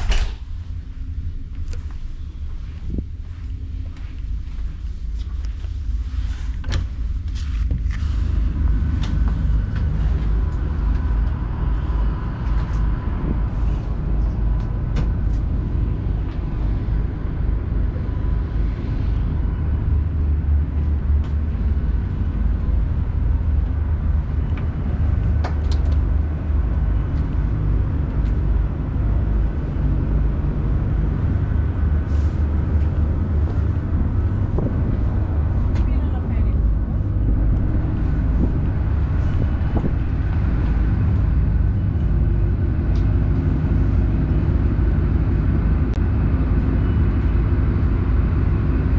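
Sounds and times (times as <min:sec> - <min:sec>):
ship engines rumbling: 0:00.0 - 0:48.9.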